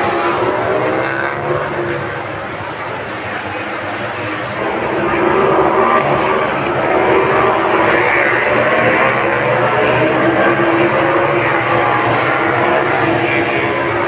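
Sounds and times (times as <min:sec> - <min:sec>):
engines droning: 0:00.0 - 0:14.0.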